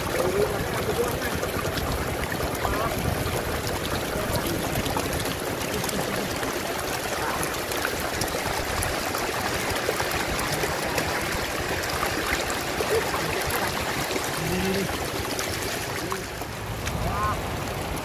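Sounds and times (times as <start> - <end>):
faint ticks and splashes: 0.0 - 18.0
water running over road: 0.0 - 18.0.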